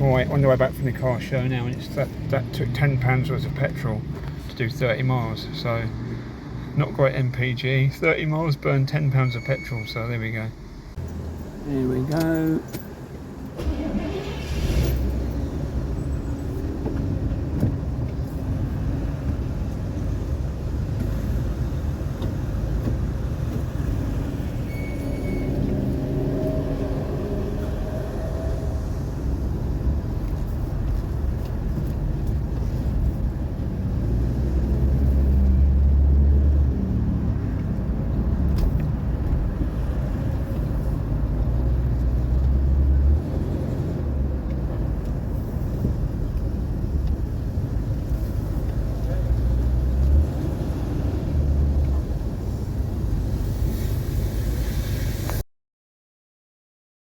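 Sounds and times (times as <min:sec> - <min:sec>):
car engine and road rumble: 0:00.0 - 0:55.4.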